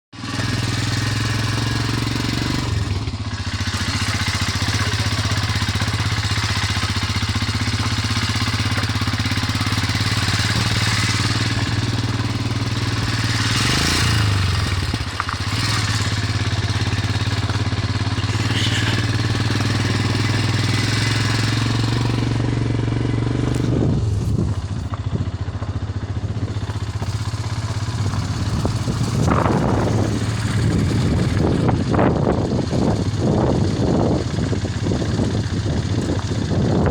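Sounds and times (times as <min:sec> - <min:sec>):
road and wind noise: 0:00.2 - 0:36.9
vehicle engine running: 0:00.2 - 0:36.9.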